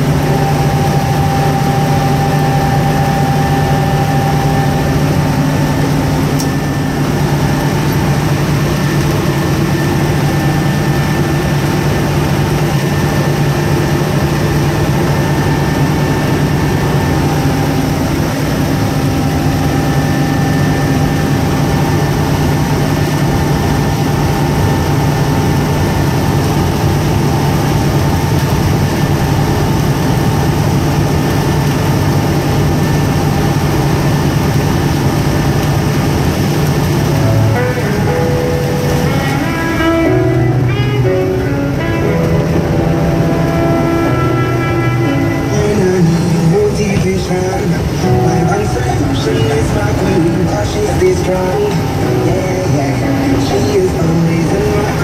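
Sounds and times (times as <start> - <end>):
boat machinery drone: 0.0 - 55.0.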